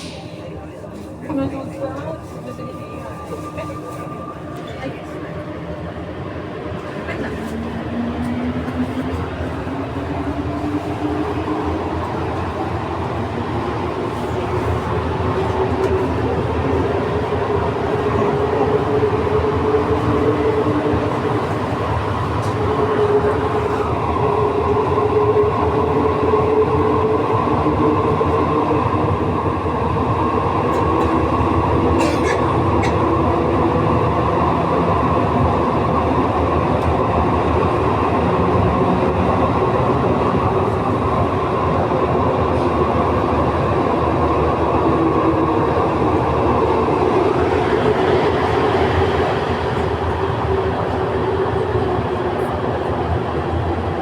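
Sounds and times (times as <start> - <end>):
metro car running rumble: 0.0 - 54.0.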